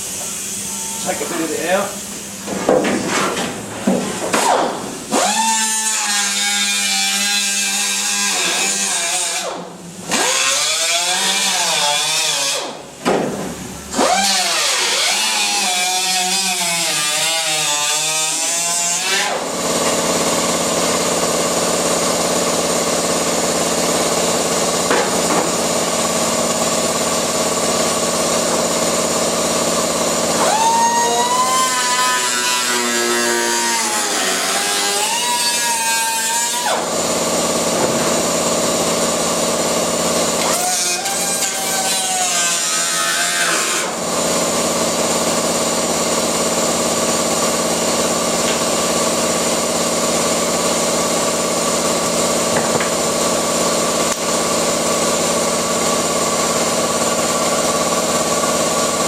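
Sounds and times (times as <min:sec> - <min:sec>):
power tool cutting metal: 0:04.3 - 0:12.9, 0:13.8 - 0:59.0.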